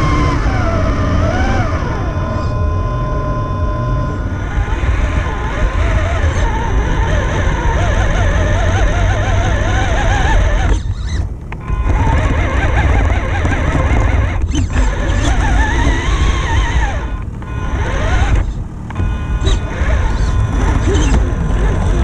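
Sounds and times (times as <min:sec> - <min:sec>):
electric motor whining: 0:00.0 - 0:22.0
tyres rumbling on gravel: 0:04.4 - 0:22.0.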